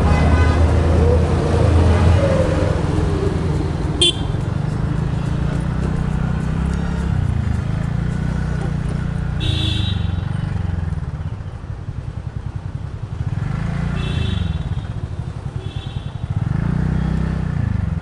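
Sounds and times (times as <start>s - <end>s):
road and wind noise: 0.0s - 18.0s
scooter engine revving: 0.0s - 18.0s.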